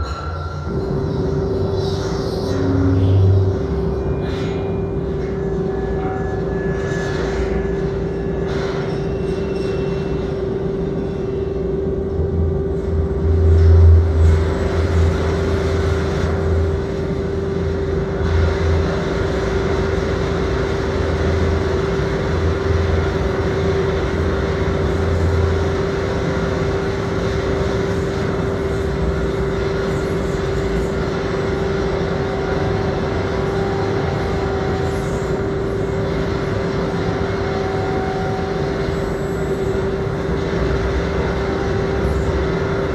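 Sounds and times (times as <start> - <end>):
electronic drone tone: 0.0 - 42.9.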